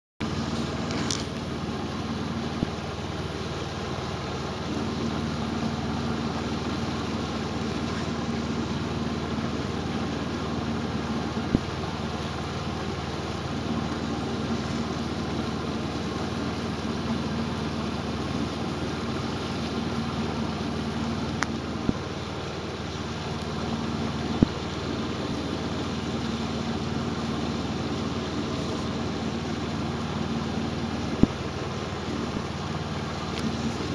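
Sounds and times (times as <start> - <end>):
boat engine droning: 0.2 - 33.9.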